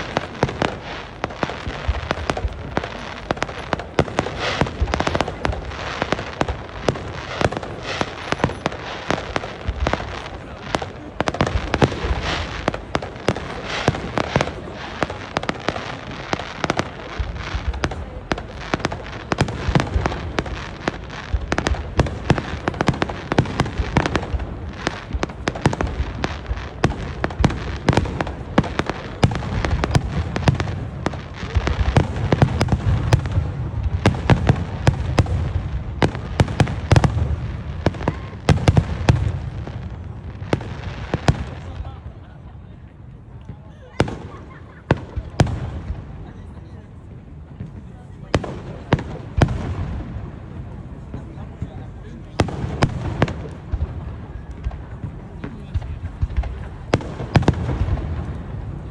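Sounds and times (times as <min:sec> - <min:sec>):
deep firework booms: 0:00.0 - 0:42.2, 0:43.5 - 0:46.7, 0:47.4 - 0:58.9
fireworks bursts and crackles: 0:00.0 - 0:58.9.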